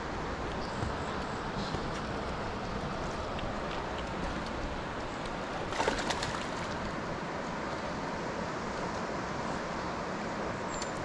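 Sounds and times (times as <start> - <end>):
river running over rocks: 0.0 - 11.0.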